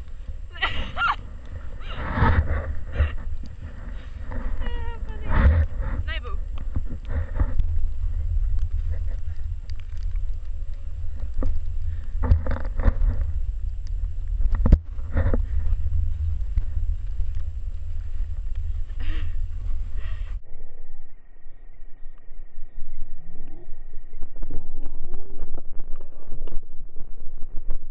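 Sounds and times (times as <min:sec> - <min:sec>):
wind buffeting microphone: 0:00.0 - 0:27.9.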